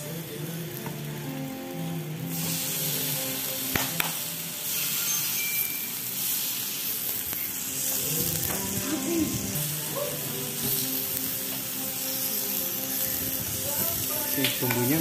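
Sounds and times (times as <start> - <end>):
meat sizzling on a grill plate: 0.0 - 15.0.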